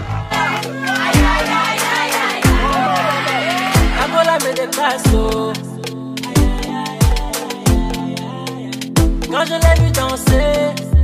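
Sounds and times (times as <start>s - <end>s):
pop music: 0.0s - 11.0s.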